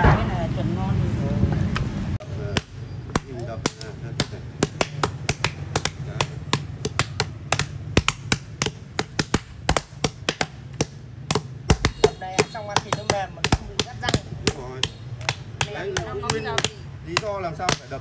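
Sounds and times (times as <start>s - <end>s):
knife chopping on wooden board: 2.5s - 18.0s.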